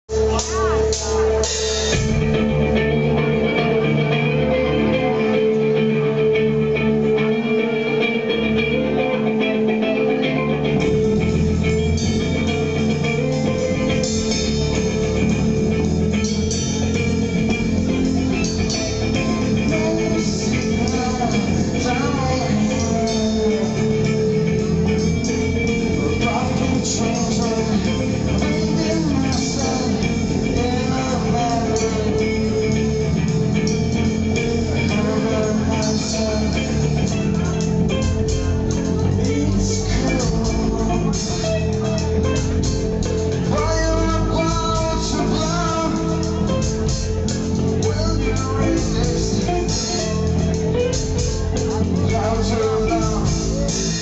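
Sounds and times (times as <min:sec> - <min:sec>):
bass guitar: 0:00.0 - 0:54.0
drum kit: 0:00.0 - 0:54.0
electric guitar: 0:00.1 - 0:54.0.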